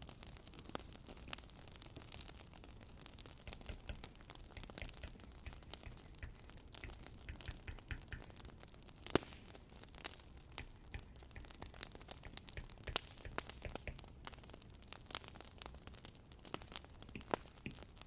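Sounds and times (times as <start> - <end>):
firewood crackling and popping: 0.0 - 18.0
low steady fire rumble: 0.0 - 18.0.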